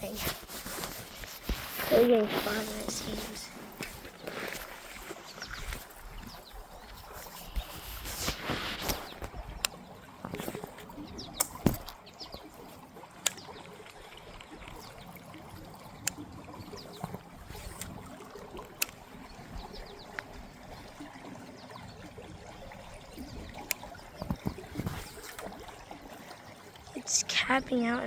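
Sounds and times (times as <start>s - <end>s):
creek water trickling: 0.0s - 28.0s.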